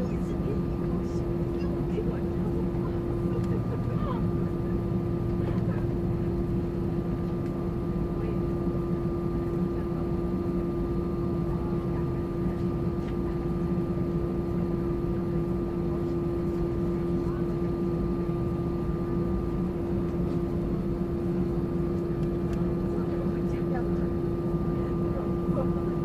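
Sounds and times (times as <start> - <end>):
airliner cabin engine drone: 0.0 - 26.0.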